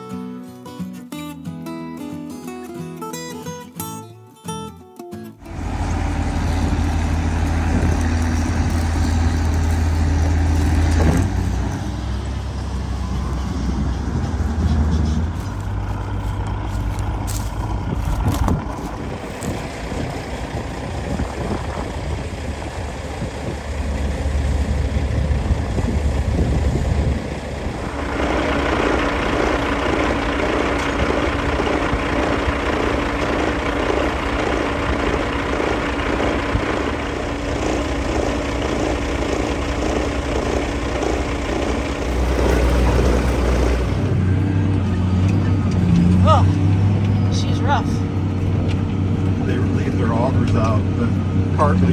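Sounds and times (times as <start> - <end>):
higher machine hum: 5.4 - 50.0
heavy machinery engine rumbling: 5.4 - 51.9.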